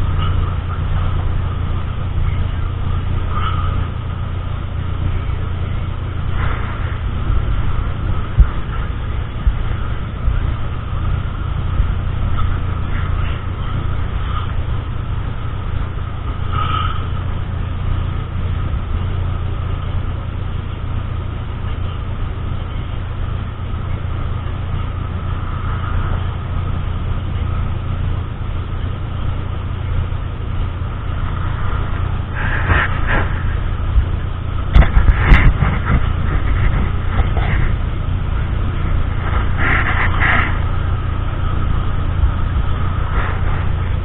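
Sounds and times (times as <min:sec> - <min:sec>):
engine and road rumble: 0:00.0 - 0:44.0.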